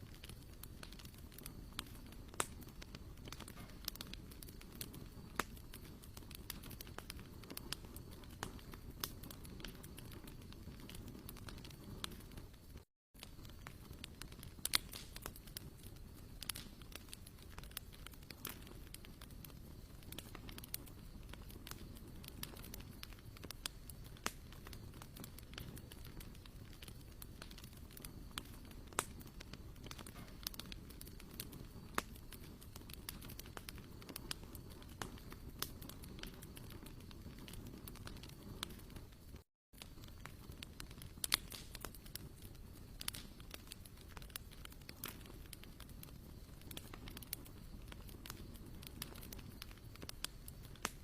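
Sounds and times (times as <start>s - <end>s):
campfire wood crackling: 0.0s - 51.0s.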